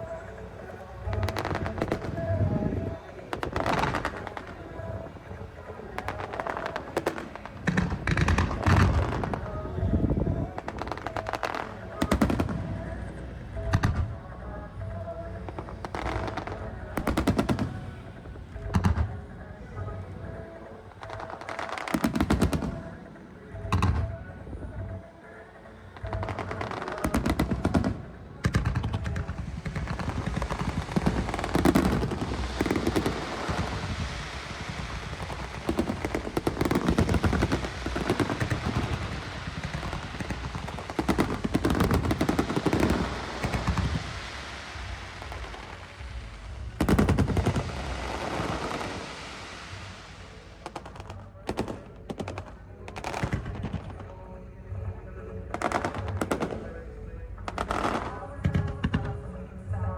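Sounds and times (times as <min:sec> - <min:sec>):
loud fireworks booms: 0:00.0 - 0:14.3, 0:14.9 - 0:25.0, 0:26.0 - 0:59.9
fireworks bangs and crackling: 0:00.0 - 0:59.9.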